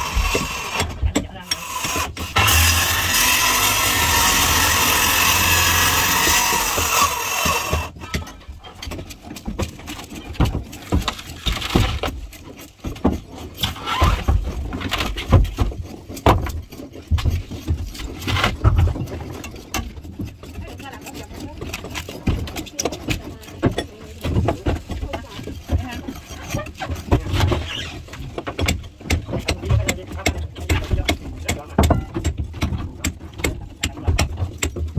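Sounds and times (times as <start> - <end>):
wooden knocks and heavy thumps: 0.0 - 34.9.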